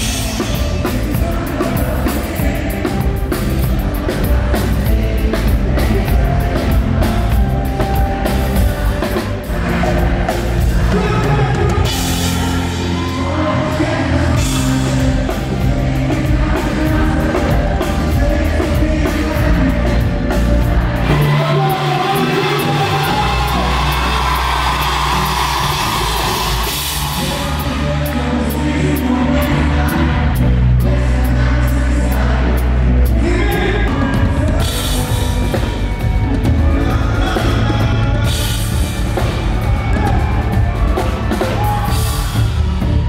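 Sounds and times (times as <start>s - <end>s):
live pop-rock band playing: 0.0s - 43.0s
person singing: 0.0s - 43.0s.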